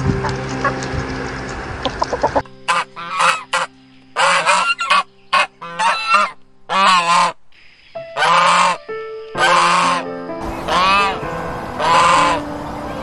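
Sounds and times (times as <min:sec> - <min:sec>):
waterfowl honking: 0:01.8 - 0:07.4, 0:08.1 - 0:13.0.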